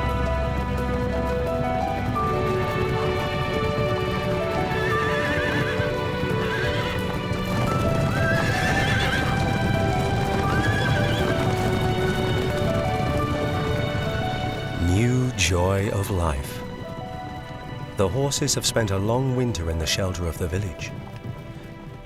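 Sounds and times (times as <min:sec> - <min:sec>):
horses whinnying: 0:00.0 - 0:18.9
background music: 0:00.0 - 0:22.0
hoofbeats: 0:00.0 - 0:22.0.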